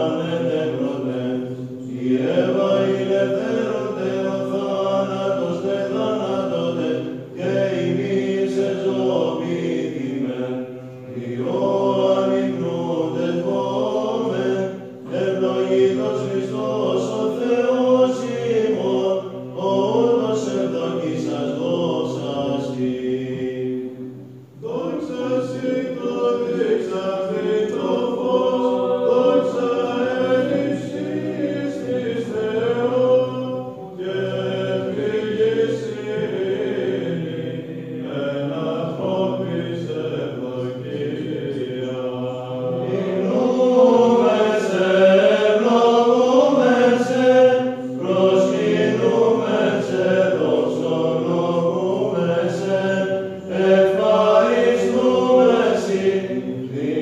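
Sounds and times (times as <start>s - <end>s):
men's choir chanting: 0.0s - 57.0s.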